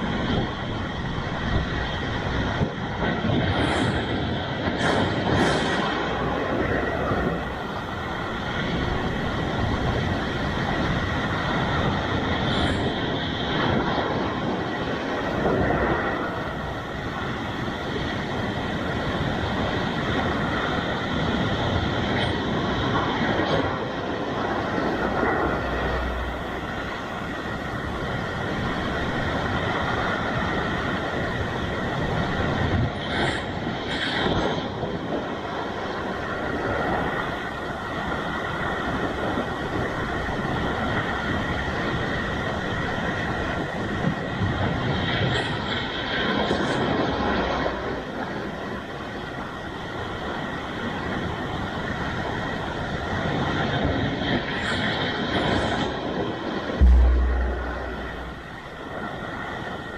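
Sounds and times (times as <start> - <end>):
waves breaking on rocky shore: 0.0 - 58.4.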